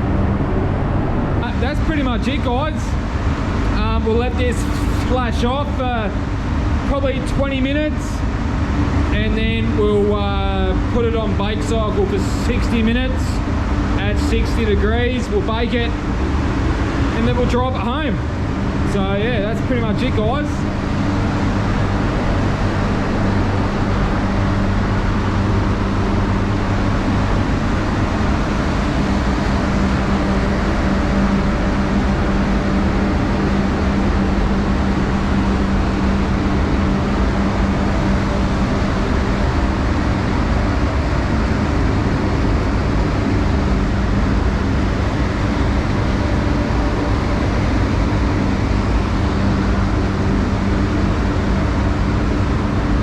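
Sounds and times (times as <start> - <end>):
air fans droning: 0.0 - 53.0
constant low hum: 0.0 - 53.0.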